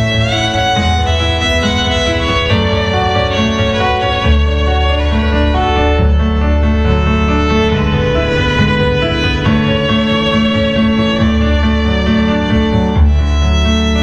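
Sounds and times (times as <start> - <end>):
electric violin melody: 0.0 - 14.0
recorded accompaniment with bass line: 0.0 - 14.0.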